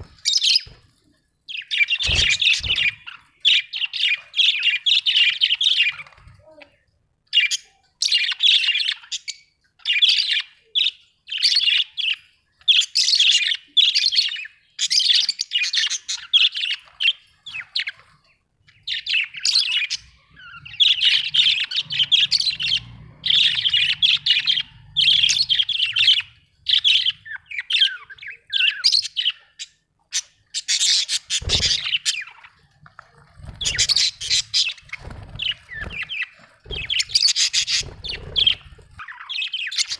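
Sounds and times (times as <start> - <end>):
budgerigars chirping and chattering: 0.0 - 0.8, 1.5 - 6.2, 7.3 - 18.0, 18.6 - 39.9.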